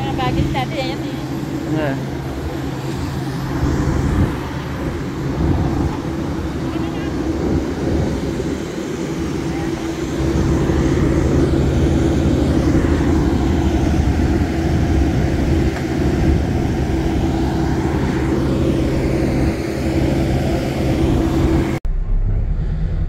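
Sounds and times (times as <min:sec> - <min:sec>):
turboprop engine running: 0:00.0 - 0:23.0.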